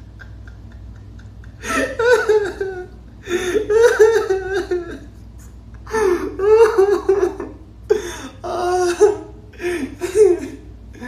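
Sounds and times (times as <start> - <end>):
man laughing high-pitched: 0.0 - 11.0.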